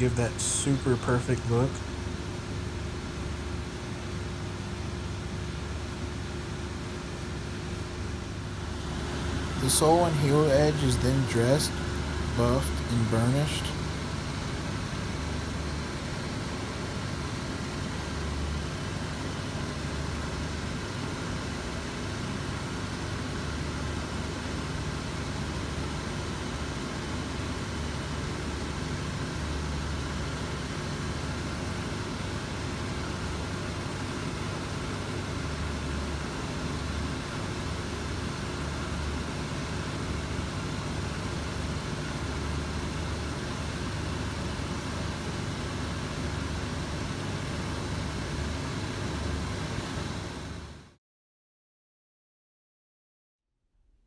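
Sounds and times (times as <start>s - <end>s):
machine motor humming: 0.0s - 50.6s.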